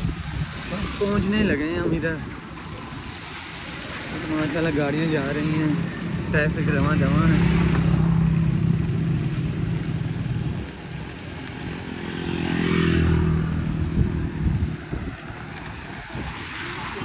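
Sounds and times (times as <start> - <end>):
tyres hissing on wet road: 0.0 - 17.0
vehicle engine humming: 0.0 - 17.0.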